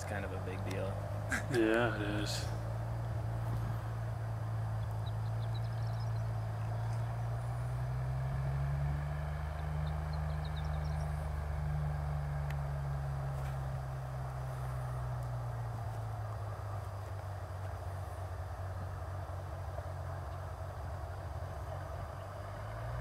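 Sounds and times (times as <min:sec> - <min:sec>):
propeller plane engine drone: 0:00.0 - 0:23.0.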